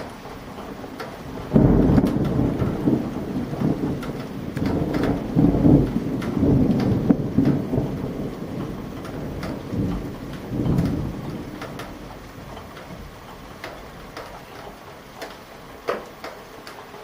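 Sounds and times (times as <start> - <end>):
thunder rumbling: 0.0 - 16.0
steady rain: 0.0 - 17.0.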